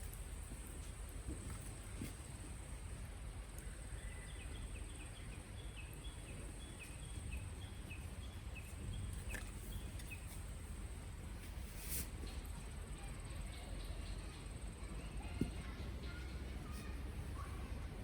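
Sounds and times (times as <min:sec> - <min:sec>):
faint outdoor background noise: 0:00.0 - 0:18.0.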